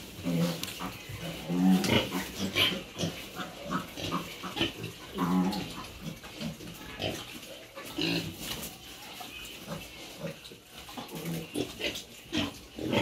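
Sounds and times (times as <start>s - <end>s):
pigs grunting: 0.2s - 8.5s, 9.6s - 13.0s.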